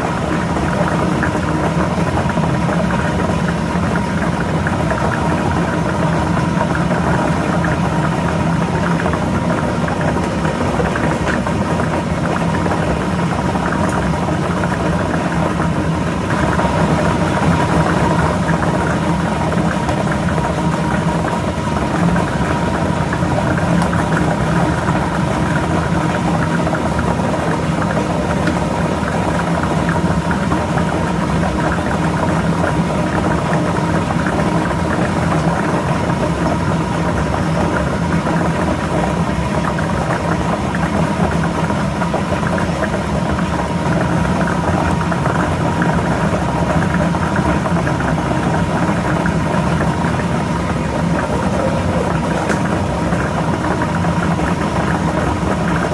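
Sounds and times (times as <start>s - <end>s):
motor hum: 0.0s - 55.9s.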